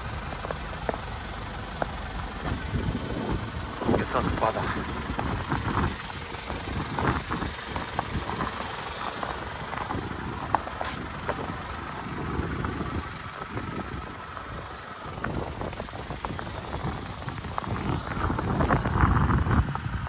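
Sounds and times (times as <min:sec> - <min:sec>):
vehicle engine idling: 0:00.0 - 0:20.0
wind gusting against microphone: 0:02.5 - 0:20.0.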